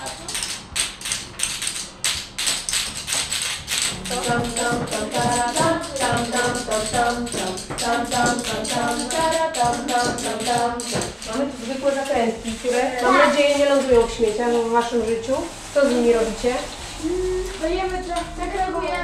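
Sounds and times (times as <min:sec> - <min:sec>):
fast shaker percussion: 0:00.0 - 0:19.0.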